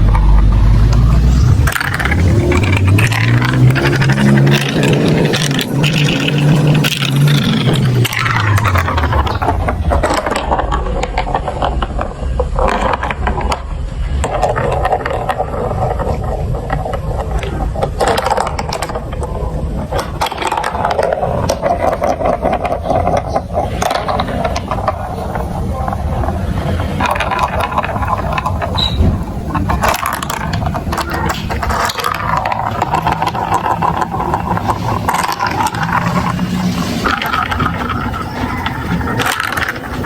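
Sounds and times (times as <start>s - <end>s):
falling rumble: 0.0s - 40.0s
marbles rolling through plastic tracks: 0.0s - 40.0s.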